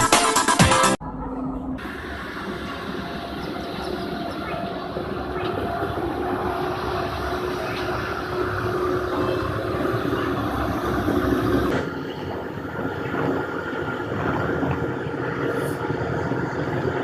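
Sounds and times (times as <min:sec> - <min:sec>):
train running: 0:01.0 - 0:17.0.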